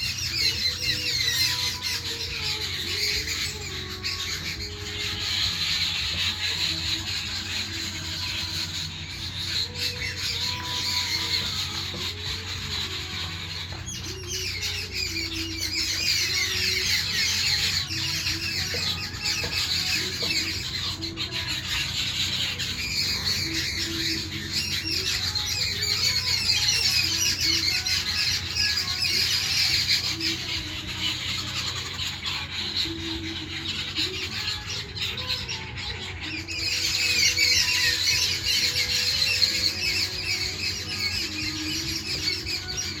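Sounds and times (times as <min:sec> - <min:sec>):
birds squawking and chattering: 0:00.0 - 0:43.0.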